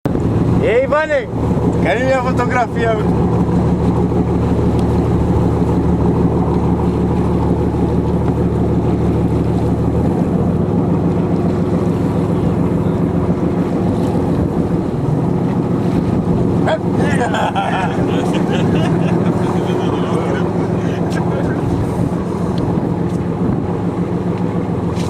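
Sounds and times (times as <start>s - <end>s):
boat engine running: 0.0s - 25.0s
water noise: 0.0s - 25.0s
wind buffeting microphone: 0.0s - 25.0s.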